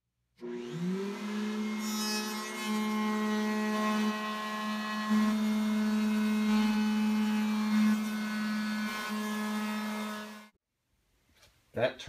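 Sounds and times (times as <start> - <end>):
router cutting wood: 0.4 - 10.6.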